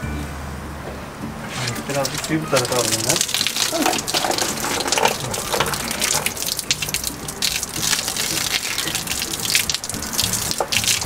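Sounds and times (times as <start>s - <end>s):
water splashing in baby bath: 1.6s - 11.0s.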